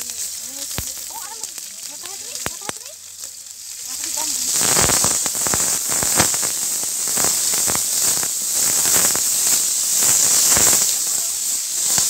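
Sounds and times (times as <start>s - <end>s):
meat frying in hot oil: 0.0s - 12.0s.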